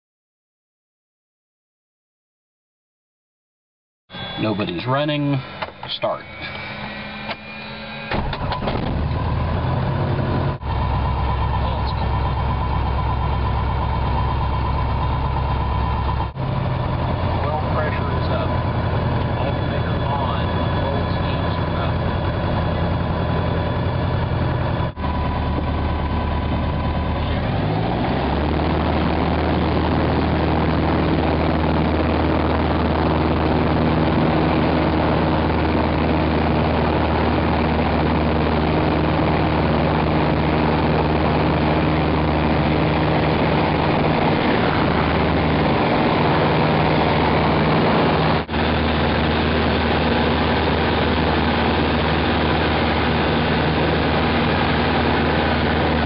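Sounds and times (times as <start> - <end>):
airplane engine and propeller: 4.1 - 56.0.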